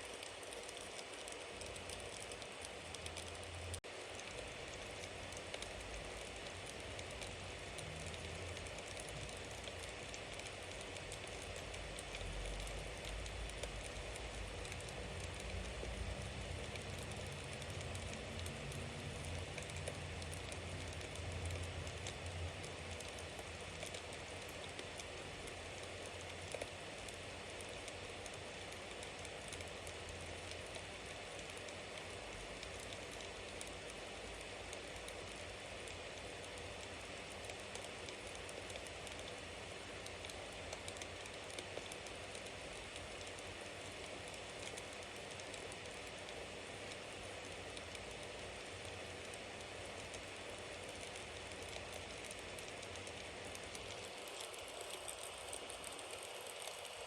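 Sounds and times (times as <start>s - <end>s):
campfire crackling and hissing: 0.0s - 57.0s.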